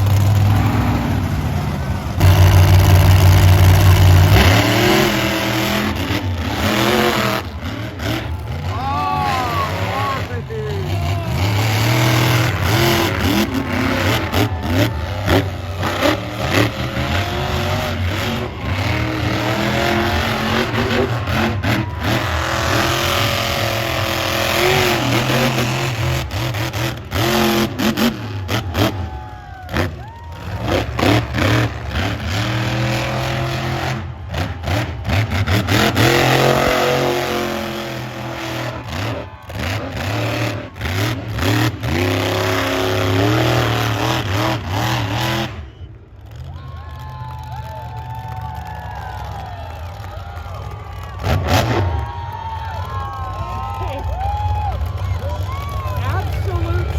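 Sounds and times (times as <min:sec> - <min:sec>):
truck engine revving hard: 0:00.0 - 0:46.5, 0:49.0 - 0:56.9.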